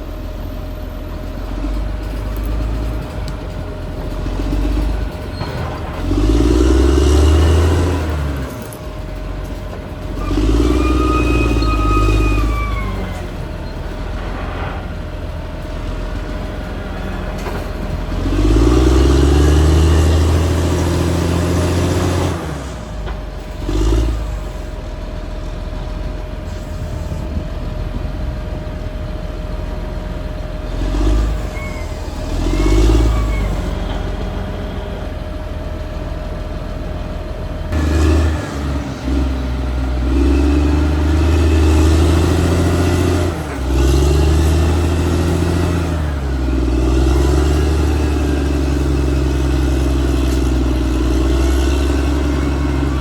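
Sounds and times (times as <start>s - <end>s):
bulldozer diesel engine working: 0.0s - 53.0s.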